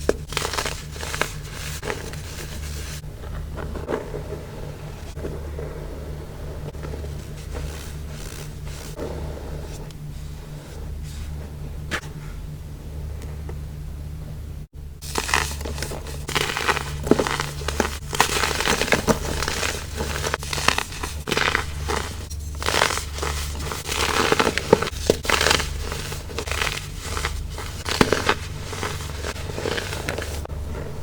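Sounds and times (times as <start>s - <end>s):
crumble being crushed: 0.0s - 10.6s, 15.0s - 31.0s.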